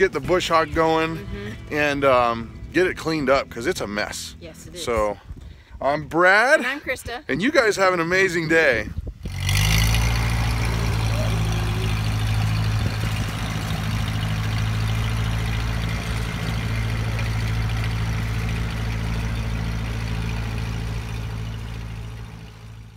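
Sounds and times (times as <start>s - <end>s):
tractor engine idling: 0.0s - 7.0s, 9.0s - 22.9s.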